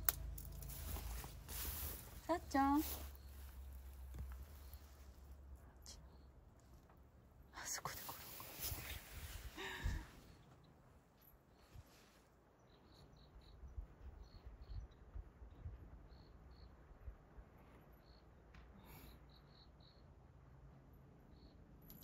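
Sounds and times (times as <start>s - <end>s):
faint crickets chirping: 0.2s - 21.9s.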